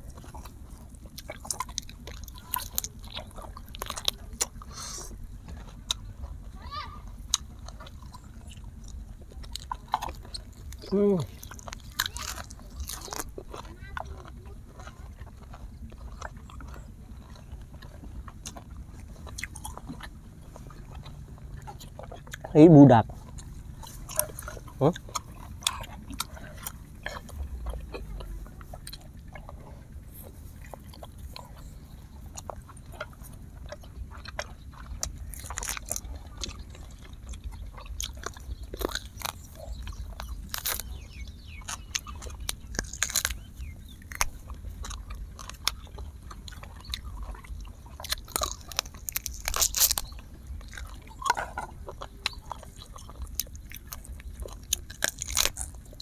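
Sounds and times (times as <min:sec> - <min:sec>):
chewing crunchy duck skin: 0:00.0 - 0:56.0.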